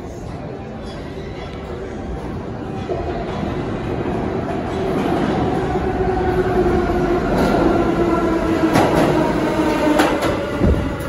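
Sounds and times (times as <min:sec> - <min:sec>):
subway train rumble with whine: 0:00.0 - 0:11.0.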